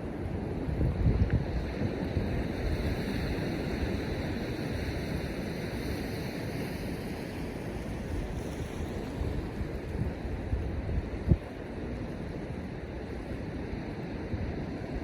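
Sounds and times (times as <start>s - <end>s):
ocean surf washing on shore: 0.0s - 15.0s
wind gusting on microphone: 0.0s - 15.0s.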